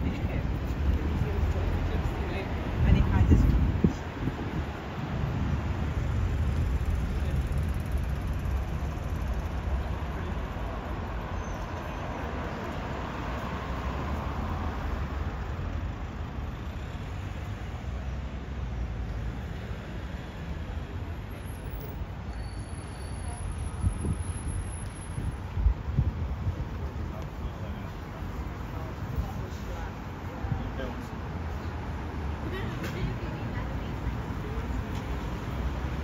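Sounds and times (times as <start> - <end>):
street traffic rumble: 0.0 - 36.0.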